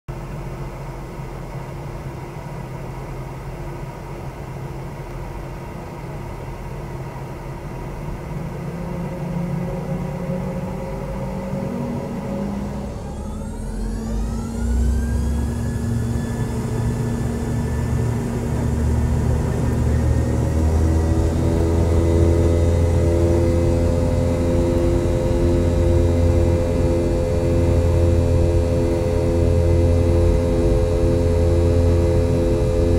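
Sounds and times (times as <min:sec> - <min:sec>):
jet engines spooling up: 0:05.5 - 0:32.9.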